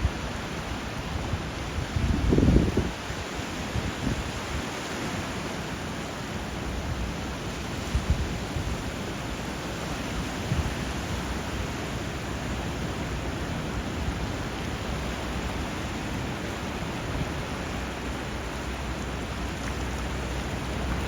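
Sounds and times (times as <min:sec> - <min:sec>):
rushing water and surf: 0:00.0 - 0:21.0.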